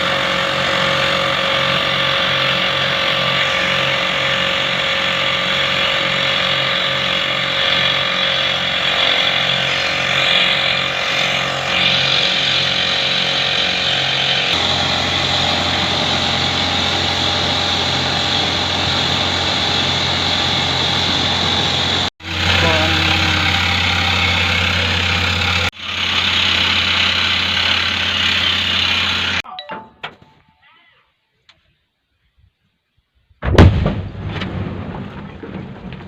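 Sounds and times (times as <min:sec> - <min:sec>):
pneumatic rock drill running: 0:00.0 - 0:29.4.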